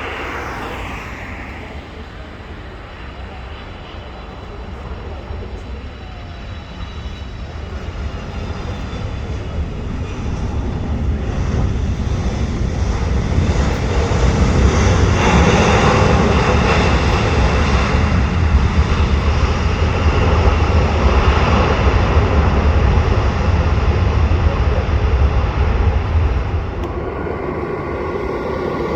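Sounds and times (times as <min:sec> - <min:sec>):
jet engines running: 0:00.0 - 0:28.9.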